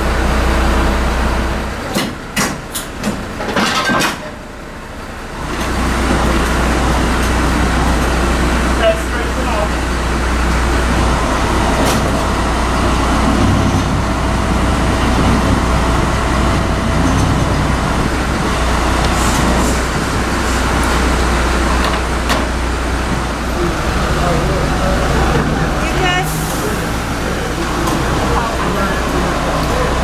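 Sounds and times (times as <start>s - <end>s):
heavy engine idling: 0.0s - 30.0s.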